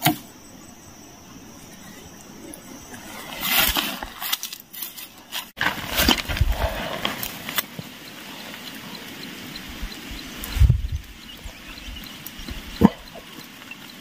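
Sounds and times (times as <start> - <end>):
leaves rustling: 0.0 - 14.0.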